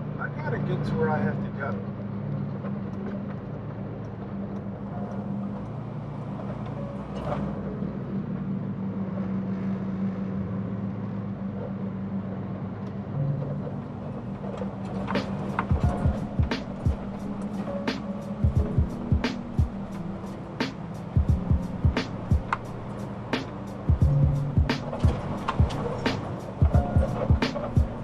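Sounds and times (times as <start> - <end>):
diesel truck engine droning: 0.0 - 28.0.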